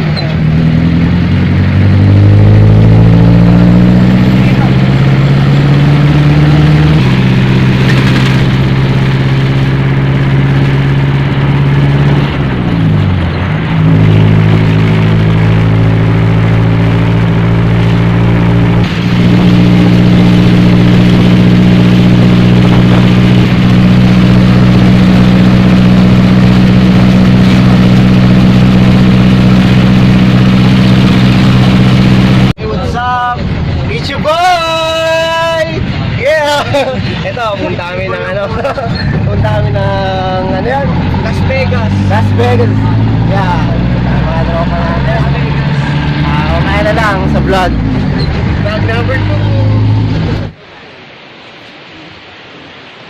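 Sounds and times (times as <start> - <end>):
vehicle engine droning: 0.0 - 51.0.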